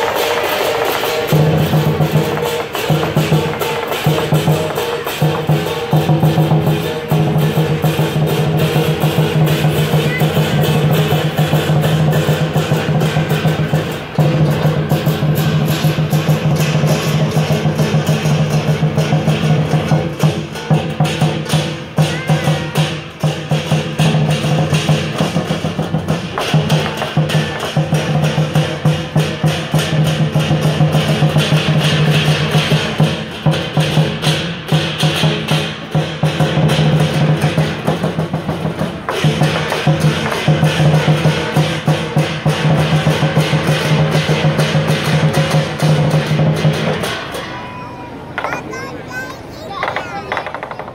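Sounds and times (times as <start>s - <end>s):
cymbals clashing: 0.0s - 48.5s
large drum beaten fast: 0.0s - 48.9s.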